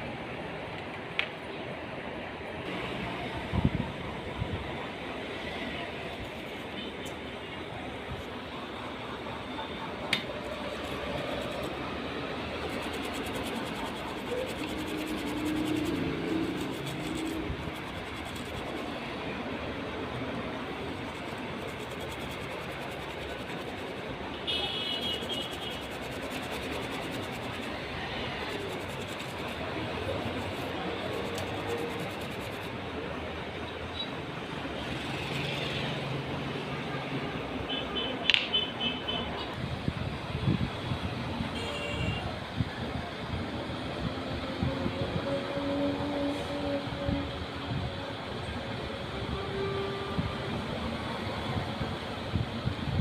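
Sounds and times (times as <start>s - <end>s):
steady background noise: 0.0s - 53.0s.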